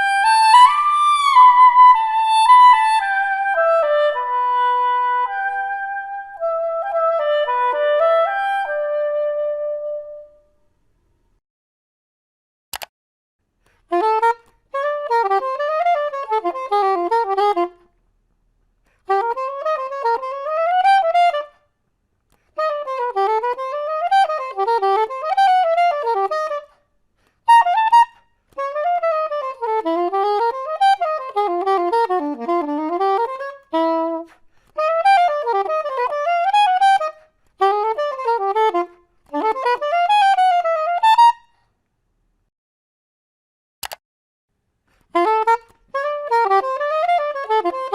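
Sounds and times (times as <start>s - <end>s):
soprano saxophone playing: 0.0s - 10.5s, 13.9s - 17.9s, 19.0s - 21.6s, 22.5s - 26.8s, 27.4s - 41.6s, 45.1s - 47.9s.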